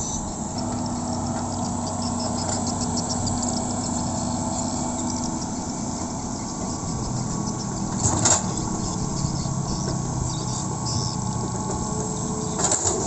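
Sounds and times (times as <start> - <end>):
excavator diesel engine: 0.0 - 13.0.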